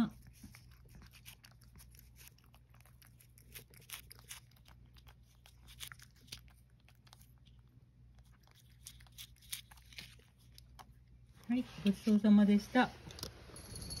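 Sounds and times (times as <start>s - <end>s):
cat licking: 0.0s - 11.6s.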